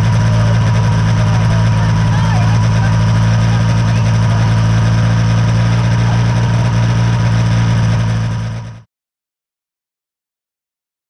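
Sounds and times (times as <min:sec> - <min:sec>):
engine idling: 0:00.0 - 0:08.9.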